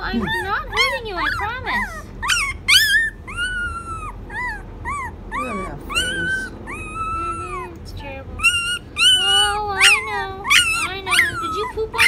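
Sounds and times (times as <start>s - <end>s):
puppy whining: 0.0s - 12.0s.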